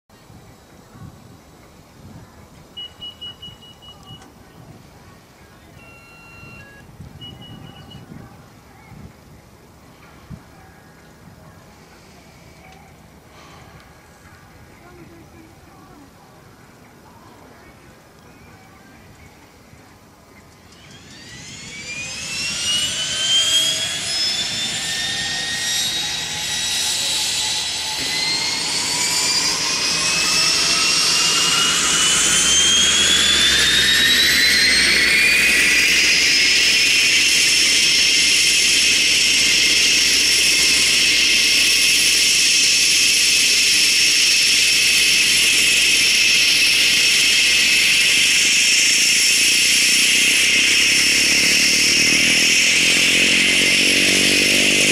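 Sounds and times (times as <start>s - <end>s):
turboprop engine whine: 0.1s - 54.9s
low hum: 5.6s - 54.9s.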